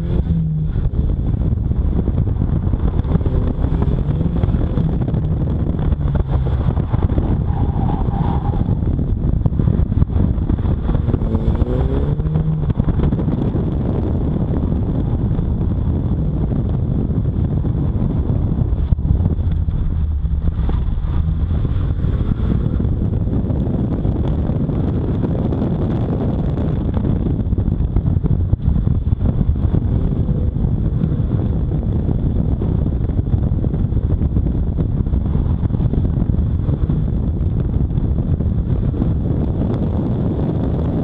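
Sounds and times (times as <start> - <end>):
car engine under load: 0.0 - 40.8
wind buffeting microphone: 0.0 - 41.0.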